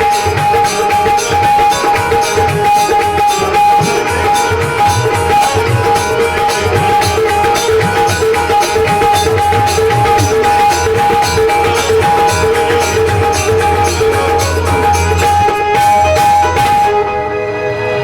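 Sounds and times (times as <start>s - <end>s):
quick drum beat: 0.0s - 16.9s
folk band playing: 0.0s - 17.1s.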